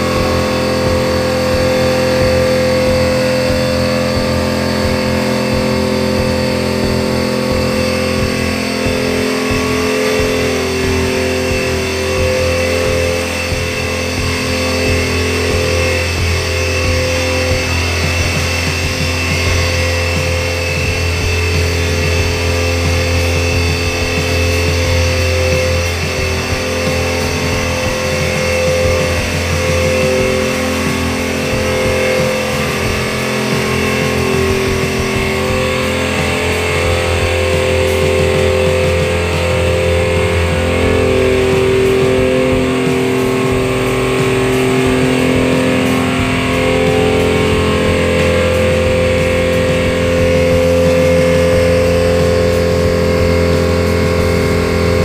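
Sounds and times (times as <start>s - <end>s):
blower machine humming: 0.0s - 55.0s.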